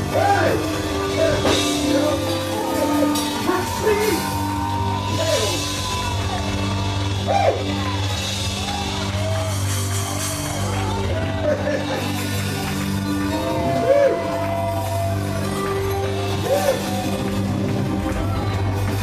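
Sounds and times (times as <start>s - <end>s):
drums: 0.0s - 19.0s
keyboard chords: 0.0s - 19.0s.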